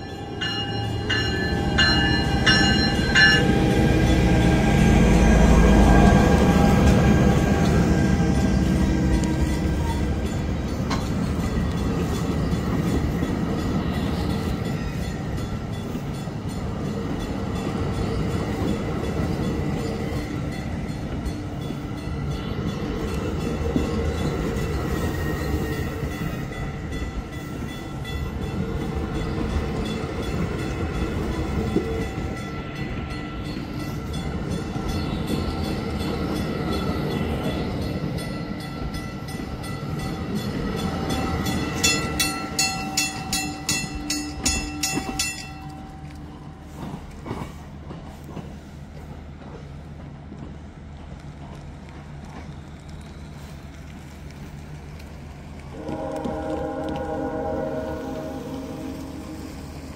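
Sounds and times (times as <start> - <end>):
diesel train humming: 0.0 - 59.9.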